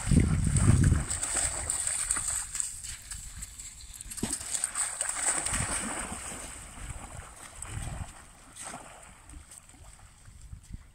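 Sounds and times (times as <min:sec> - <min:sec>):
dog splashing in river: 0:00.0 - 0:10.4.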